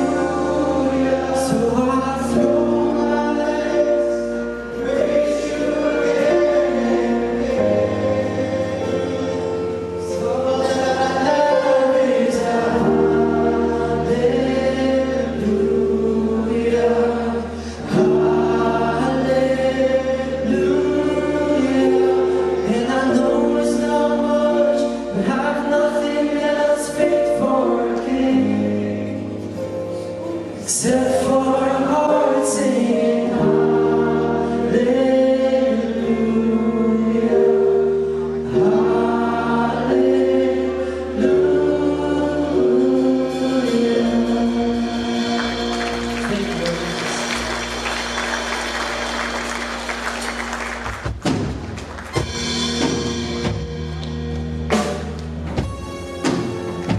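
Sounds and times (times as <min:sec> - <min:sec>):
choir singing gospel song: 0:00.0 - 0:51.0
sustained bass notes: 0:00.0 - 0:56.9.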